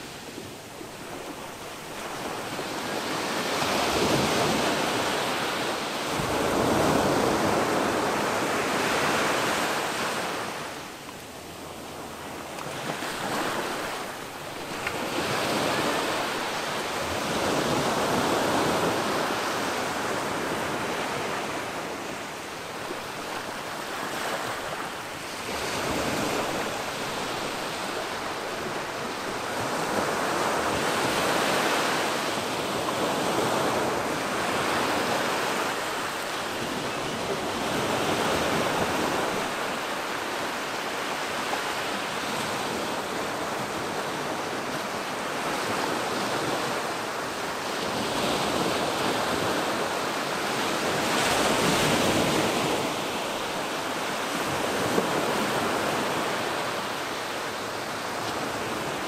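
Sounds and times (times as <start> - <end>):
ocean waves washing on beach: 0.0 - 59.0.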